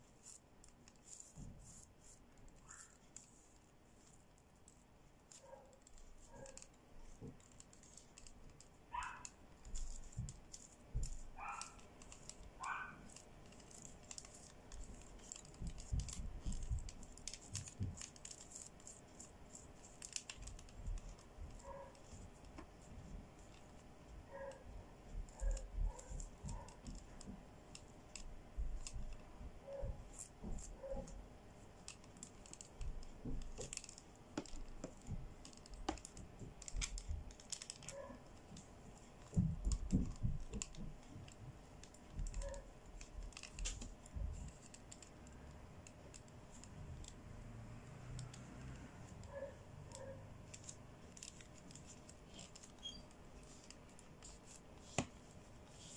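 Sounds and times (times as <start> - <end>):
sequins clicking and rustling: 0.0 - 55.9.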